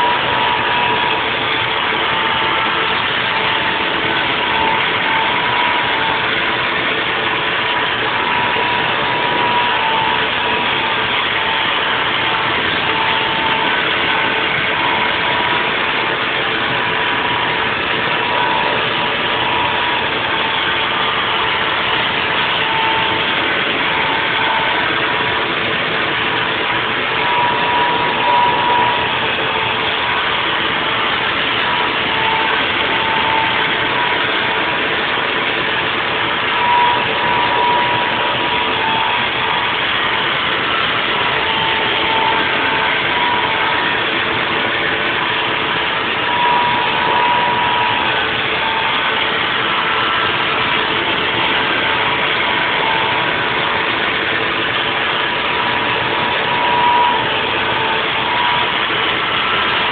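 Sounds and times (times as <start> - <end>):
high machine whine: 0.0 - 59.9
milling machine running: 0.0 - 59.9.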